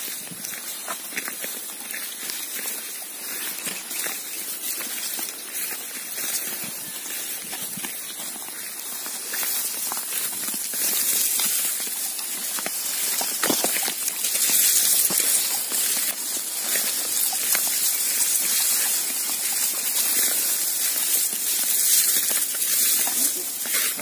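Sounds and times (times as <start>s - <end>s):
grass rustling underfoot: 0.0s - 24.0s.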